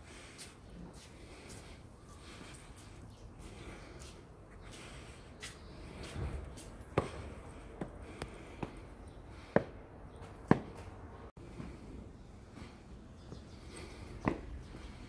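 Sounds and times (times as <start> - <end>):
footsteps on stone steps: 0.1 - 11.8, 13.2 - 15.0.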